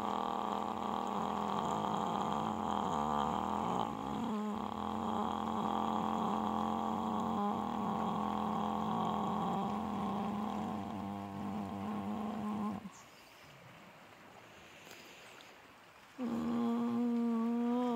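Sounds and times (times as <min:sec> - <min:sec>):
faint hiss: 0:00.0 - 0:17.9.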